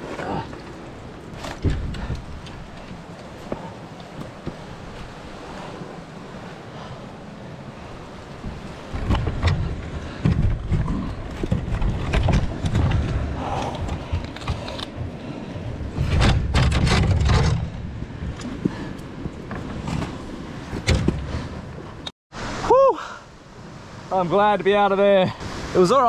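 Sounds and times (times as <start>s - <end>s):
wind buffeting microphone: 0.0s - 22.1s.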